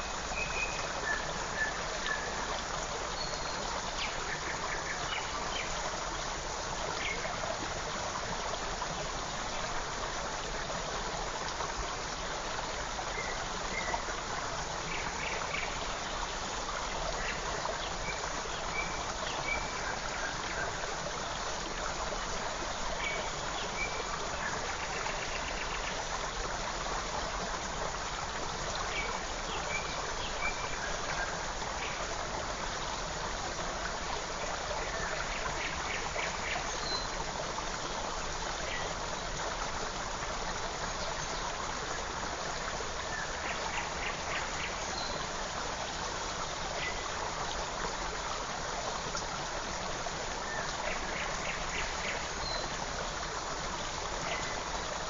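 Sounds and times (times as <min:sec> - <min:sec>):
creek flowing and trickling: 0:00.0 - 0:55.0.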